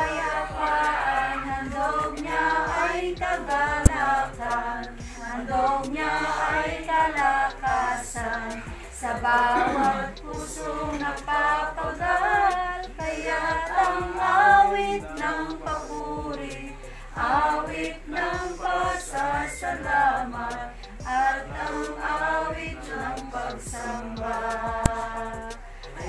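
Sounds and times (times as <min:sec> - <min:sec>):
group singing a hymn: 0:00.0 - 0:26.0.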